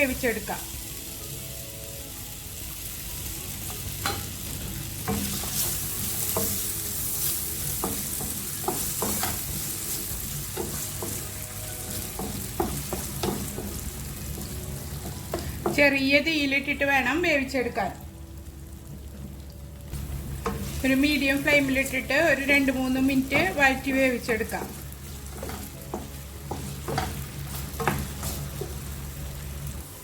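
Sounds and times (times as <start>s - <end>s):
potato sizzling in oil: 0.0s - 30.0s.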